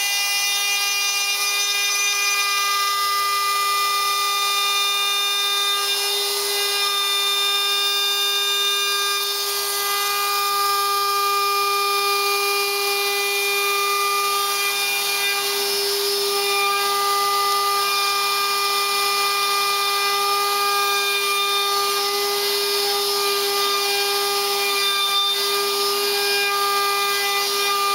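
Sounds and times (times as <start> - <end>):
router spindle whining: 0.0 - 27.9.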